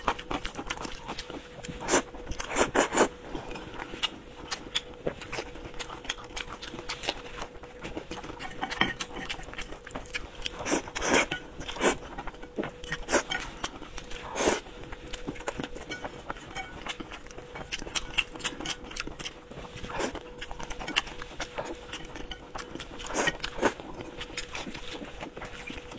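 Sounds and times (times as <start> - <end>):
slurping and chewing noodles: 0.0 - 25.9.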